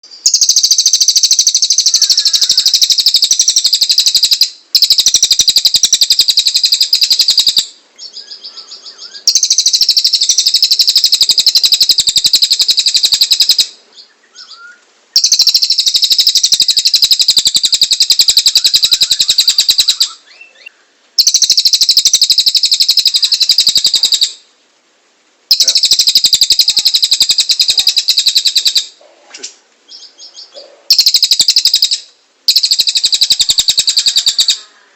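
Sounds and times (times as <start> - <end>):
songbird trilling: 0.2 - 24.4, 25.5 - 29.0, 29.9 - 34.9.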